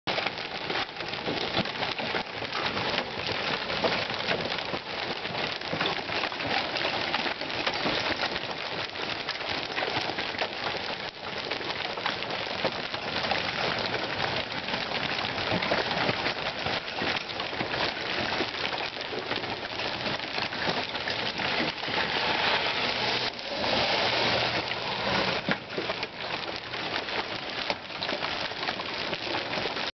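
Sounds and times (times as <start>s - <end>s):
hail and rain on pavement: 0.1s - 29.9s.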